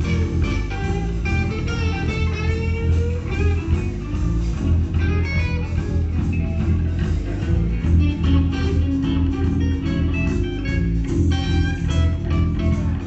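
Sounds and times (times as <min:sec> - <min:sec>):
bending electric guitar lead: 0:00.0 - 0:13.0
blues band playing: 0:00.0 - 0:13.0.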